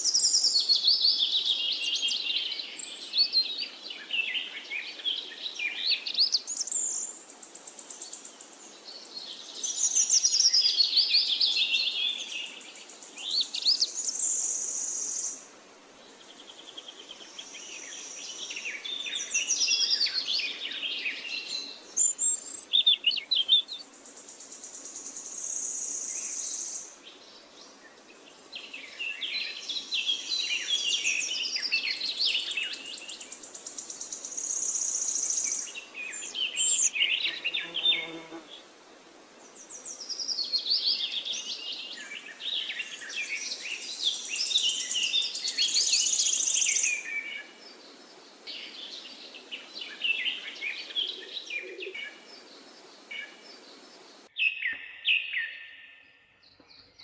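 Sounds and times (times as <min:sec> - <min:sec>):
songbirds chirping and singing: 0:00.0 - 0:15.4, 0:16.1 - 0:38.7, 0:39.4 - 0:57.0
faint hiss: 0:00.0 - 0:54.4.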